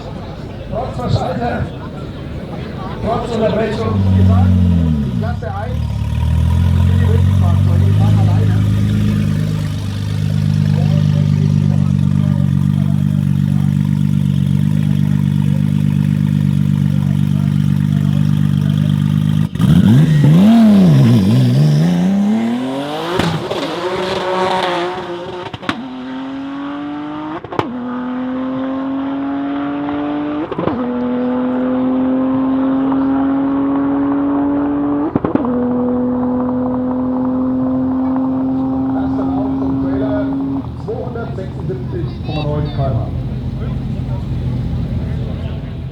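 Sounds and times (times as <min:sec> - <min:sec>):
car engine revving and accelerating: 0:00.0 - 0:45.9.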